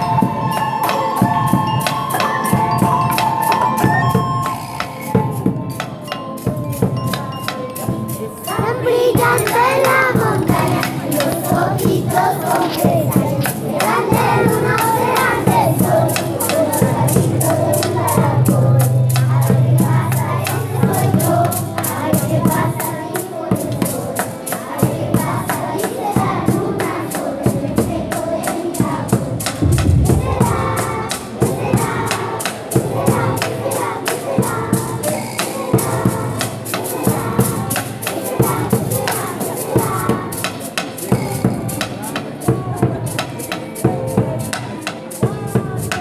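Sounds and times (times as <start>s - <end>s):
steady percussive beat: 0.0s - 41.9s
children singing: 0.0s - 46.0s.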